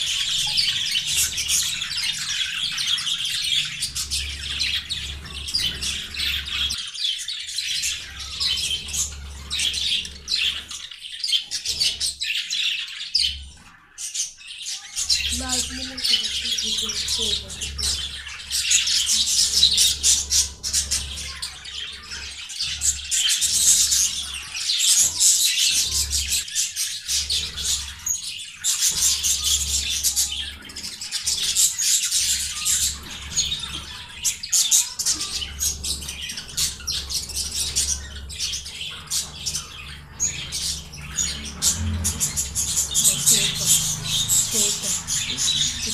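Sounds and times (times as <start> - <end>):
budgerigar chattering: 7.6 - 45.9.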